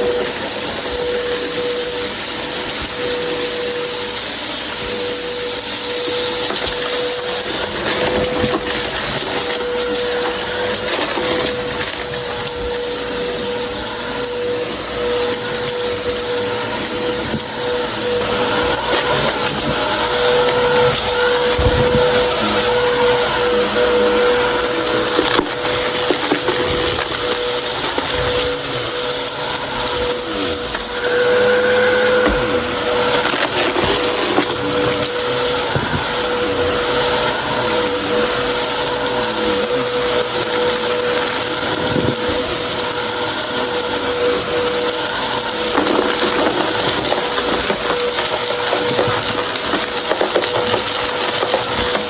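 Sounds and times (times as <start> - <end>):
debris crackling and rattling: 0.0 - 52.0
vacuum cleaner motor whine: 0.0 - 52.0.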